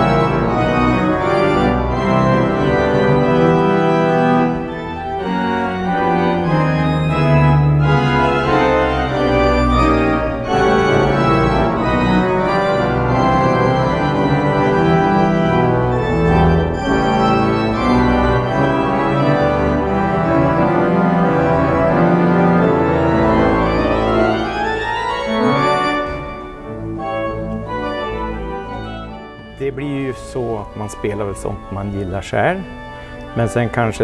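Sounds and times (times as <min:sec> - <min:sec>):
pipe organ playing chords: 0:00.0 - 0:34.0.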